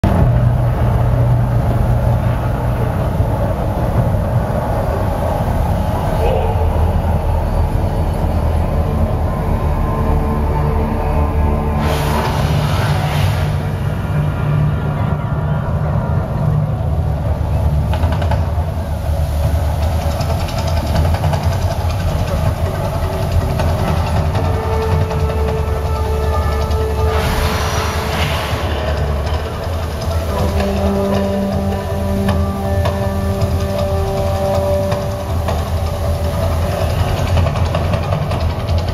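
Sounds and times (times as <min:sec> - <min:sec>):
deep steady rumble: 0:00.0 - 0:38.9
volcano attraction erupting: 0:00.0 - 0:38.9.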